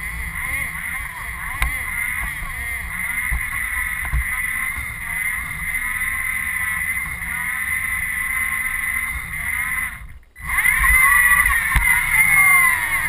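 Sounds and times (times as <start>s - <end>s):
electric motors and gears whining: 0.0s - 13.0s
wheels rumbling on floor: 0.0s - 13.0s.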